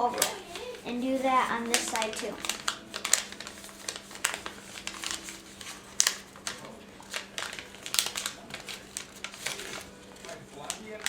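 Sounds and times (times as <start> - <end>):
paper crinkling as it is folded: 0.0 - 11.0.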